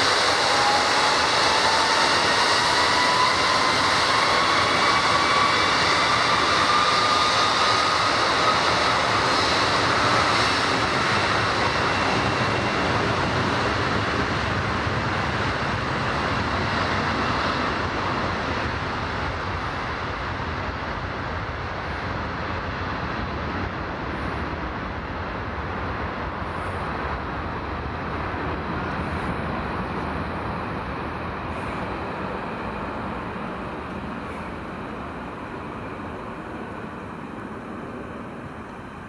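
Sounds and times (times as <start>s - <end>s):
jet engines whining: 0.0s - 21.5s, 22.1s - 39.0s.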